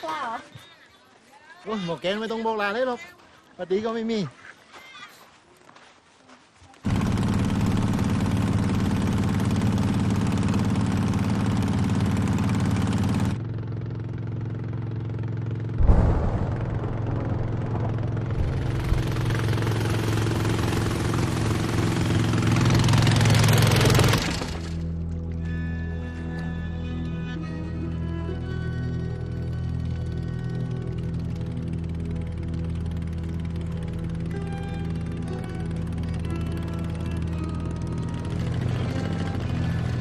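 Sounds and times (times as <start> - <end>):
boat engine running: 6.8 - 40.0.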